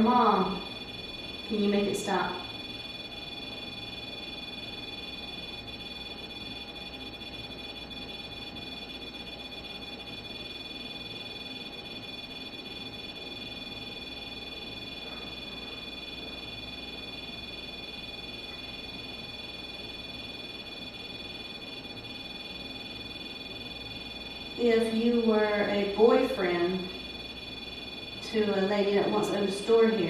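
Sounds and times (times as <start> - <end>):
high-pitched electronic whine: 0.0 - 30.0.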